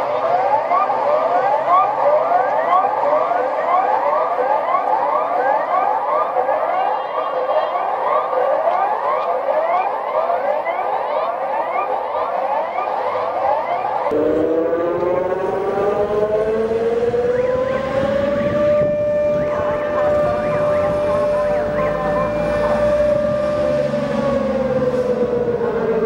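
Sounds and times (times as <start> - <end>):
sirens wailing: 0.0 - 26.0.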